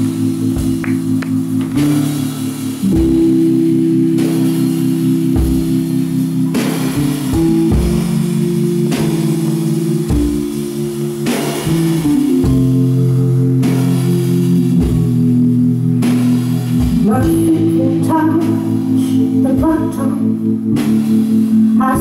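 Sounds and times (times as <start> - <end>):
electric guitar and bass chords: 0.0 - 22.0.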